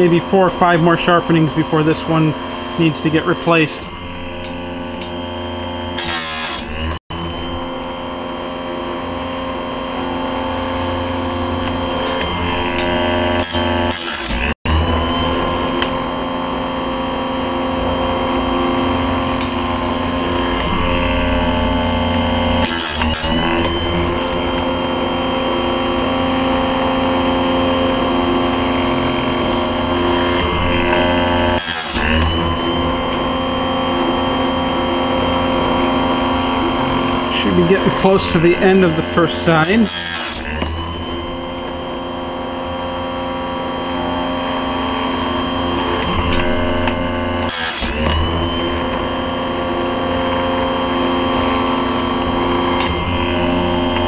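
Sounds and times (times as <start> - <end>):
grinding wheel motor running: 0.0 - 54.0.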